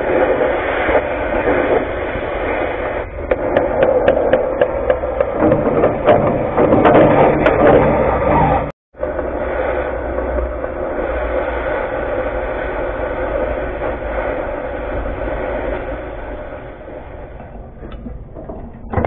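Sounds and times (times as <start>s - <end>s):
crackling pops: 0.0s - 19.0s
cutting torch hissing: 0.0s - 19.0s.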